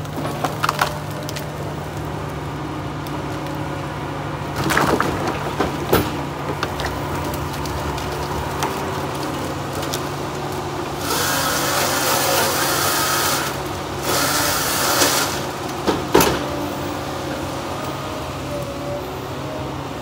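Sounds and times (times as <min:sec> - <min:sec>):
scraping and crackling of limbs: 0:00.0 - 0:16.1
diesel engine running: 0:00.0 - 0:20.0.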